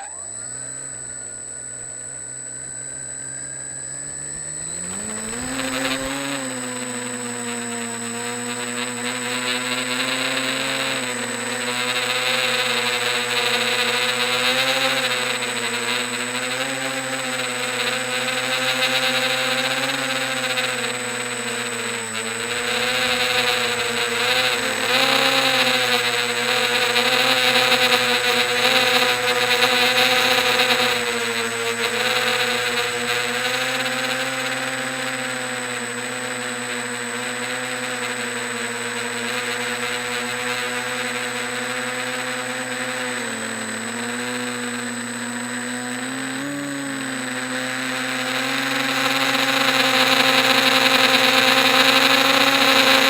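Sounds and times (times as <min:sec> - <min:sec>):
quadcopter drone: 0:00.0 - 0:53.0.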